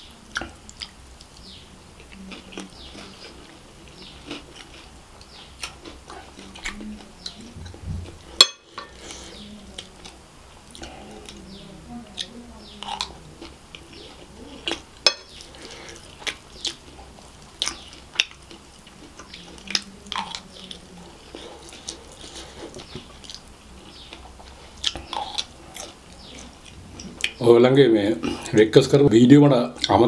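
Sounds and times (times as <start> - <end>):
close chewing with mouth clicks: 0.2 - 27.4.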